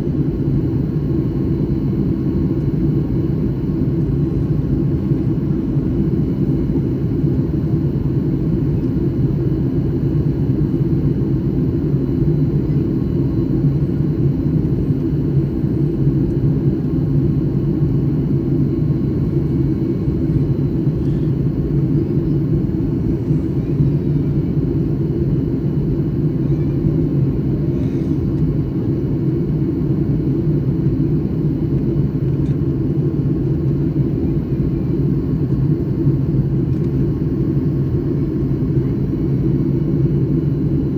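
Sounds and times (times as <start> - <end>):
airliner low rumble: 0.0 - 40.9.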